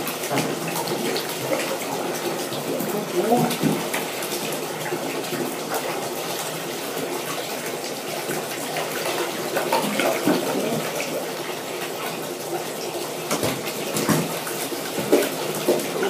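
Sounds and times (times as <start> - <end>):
rush of water: 0.0 - 16.0
water sloshing and splashing: 0.0 - 16.0.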